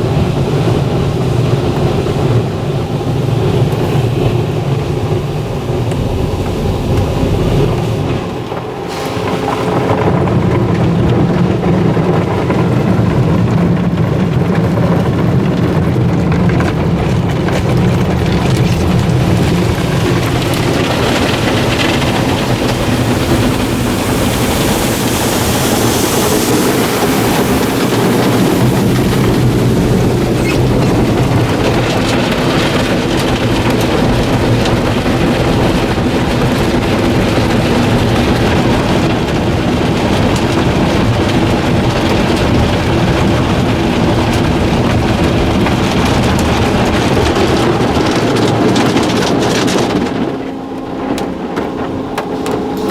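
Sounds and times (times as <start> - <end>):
car wash motors humming: 0.0 - 52.9
water spraying on car body: 0.0 - 52.9.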